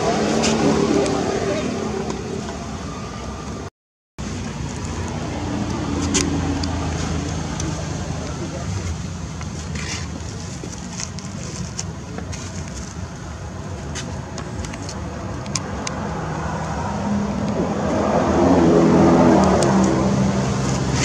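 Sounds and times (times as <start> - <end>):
vehicle engine approaching: 0.0 - 21.0.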